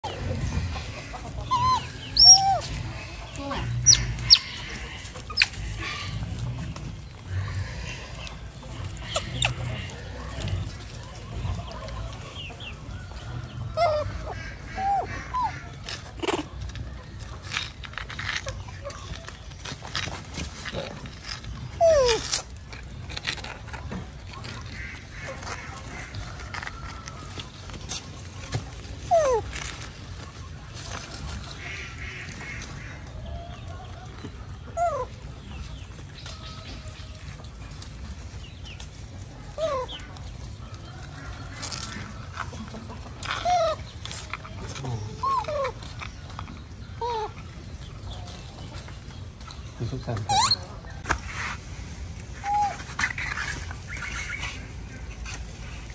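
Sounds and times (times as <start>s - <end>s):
chickens clucking: 0.0s - 55.9s.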